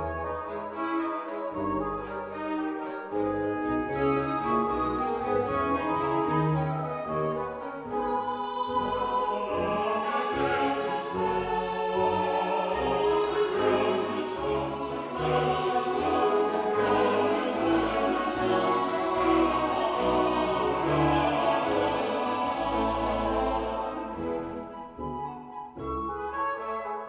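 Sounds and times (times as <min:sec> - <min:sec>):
choir singing: 0:00.0 - 0:25.8
orchestral accompaniment: 0:00.0 - 0:27.0.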